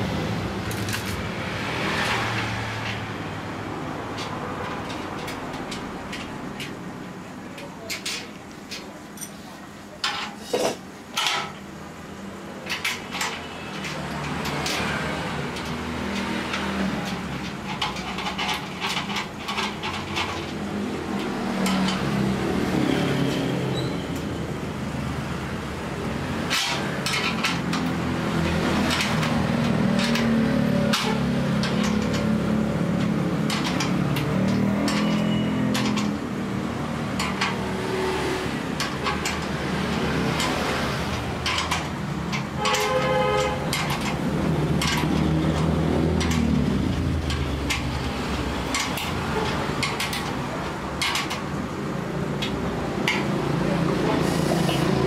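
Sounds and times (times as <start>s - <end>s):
metal parts clanking: 0.6s - 3.2s, 3.8s - 6.9s, 7.5s - 11.7s, 12.5s - 24.4s, 25.2s - 55.0s.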